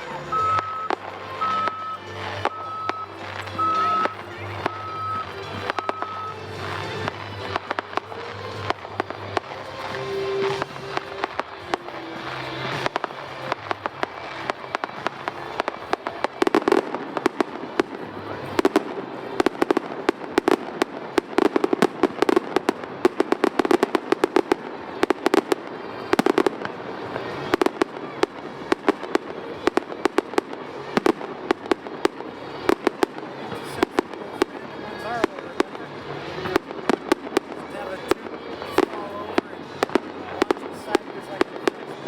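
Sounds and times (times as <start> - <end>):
fireworks cracking and popping: 0.0 - 42.0.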